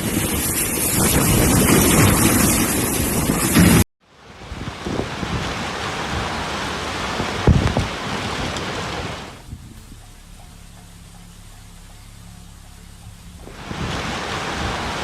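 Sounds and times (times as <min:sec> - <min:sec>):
storm wind and rain: 0:00.0 - 0:15.0.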